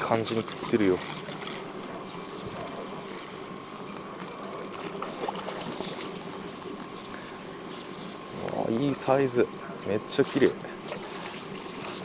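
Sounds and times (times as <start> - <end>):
spinning reel mechanism running: 0.0 - 12.0.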